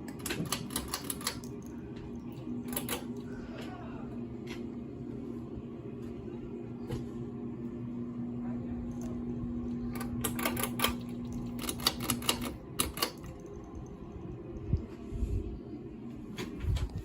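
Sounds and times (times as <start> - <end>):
low hum: 1.5 - 17.0.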